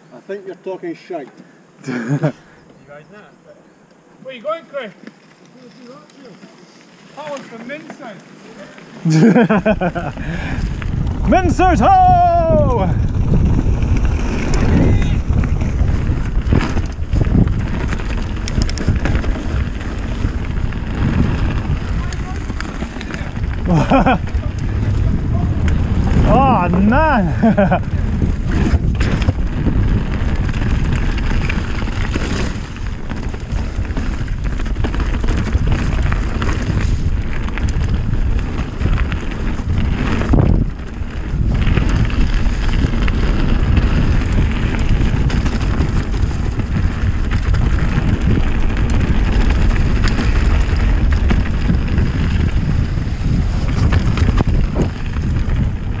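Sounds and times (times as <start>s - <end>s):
bike tyres and frame rattling: 4.6s - 56.0s
wind on microphone: 9.1s - 56.0s.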